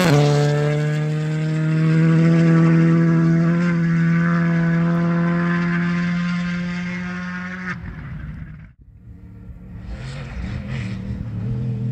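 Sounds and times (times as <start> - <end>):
rally car engine approaching: 0.0 - 11.9
rally car engine rumbling: 0.0 - 11.9.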